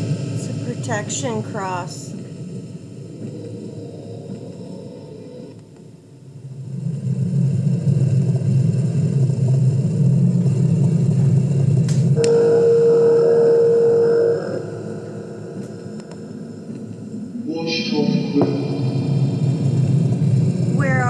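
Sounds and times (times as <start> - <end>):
low droning rumble: 0.0 - 21.0.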